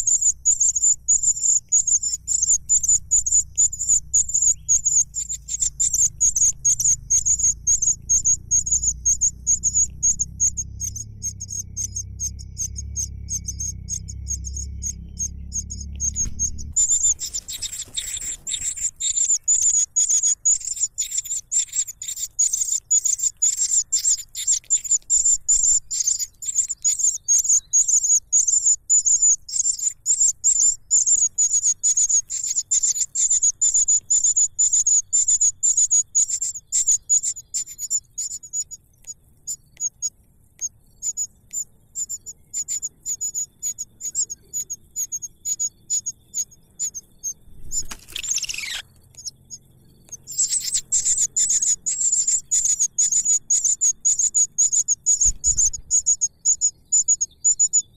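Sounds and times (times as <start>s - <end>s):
nestlings cheeping: 0.0s - 57.9s.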